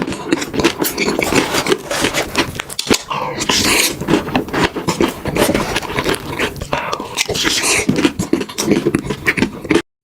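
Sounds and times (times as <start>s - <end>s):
chewing and crunching food: 0.0s - 9.9s.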